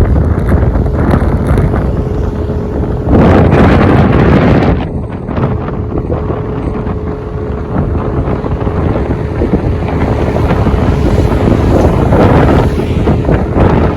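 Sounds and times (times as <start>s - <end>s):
low road rumble: 0.0s - 13.9s
wind buffeting microphone: 0.0s - 13.9s.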